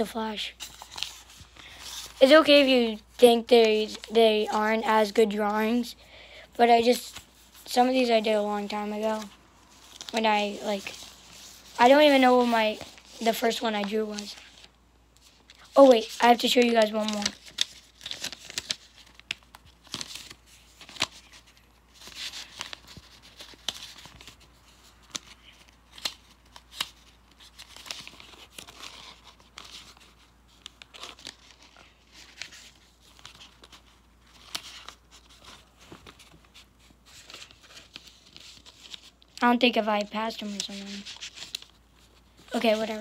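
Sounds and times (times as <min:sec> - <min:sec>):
paper sheets rustling: 0:00.0 - 0:05.8, 0:06.8 - 0:43.0.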